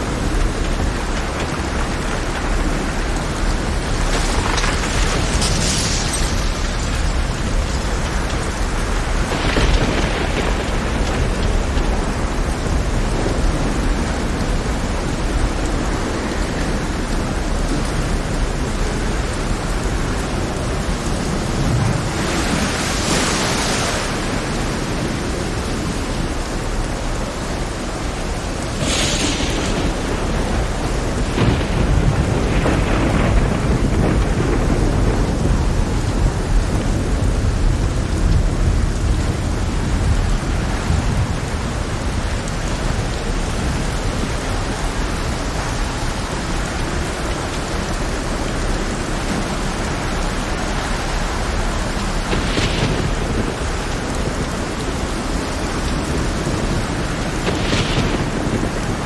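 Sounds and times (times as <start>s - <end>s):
heavy rain: 0.0s - 59.0s
rolling thunder: 0.0s - 59.0s.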